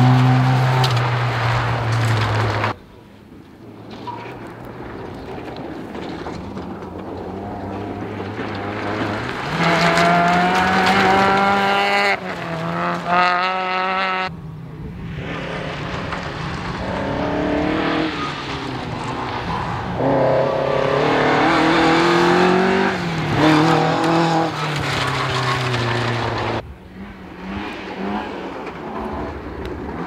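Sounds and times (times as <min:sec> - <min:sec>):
rally car engine passing: 0:00.0 - 0:02.8, 0:04.6 - 0:30.0
second rally car approaching: 0:03.9 - 0:30.0.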